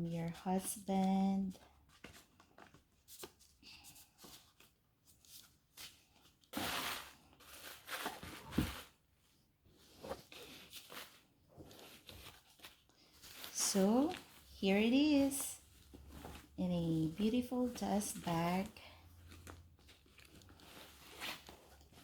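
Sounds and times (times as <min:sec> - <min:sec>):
paper packaging rustling: 0:00.6 - 0:09.1, 0:09.8 - 0:22.0.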